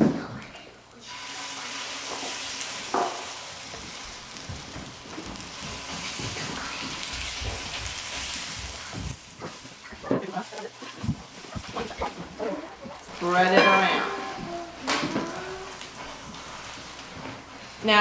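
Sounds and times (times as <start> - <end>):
batter sizzling on griddle: 0.2 - 18.0.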